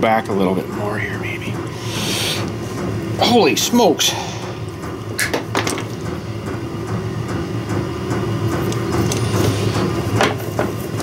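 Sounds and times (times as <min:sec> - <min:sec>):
diesel heater humming: 0:00.0 - 0:11.0.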